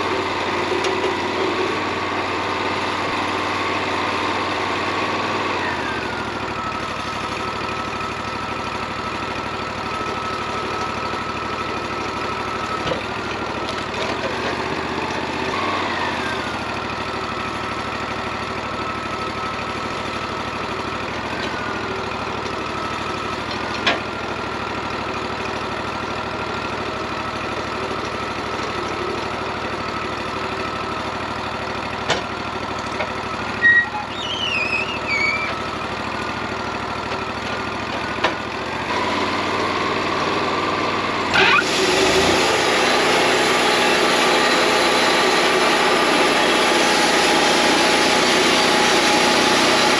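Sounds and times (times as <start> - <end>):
band sawmill running: 0.0 - 49.9.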